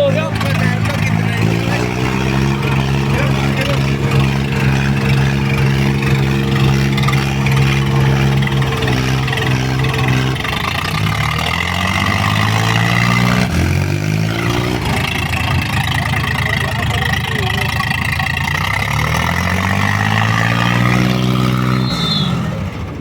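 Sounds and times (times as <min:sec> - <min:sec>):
diesel tractor engine revving: 0:00.0 - 0:23.0.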